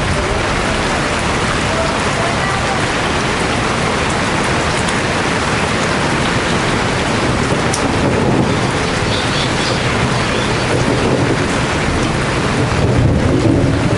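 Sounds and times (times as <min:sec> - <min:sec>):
heavy rain downpour: 0:00.0 - 0:13.9.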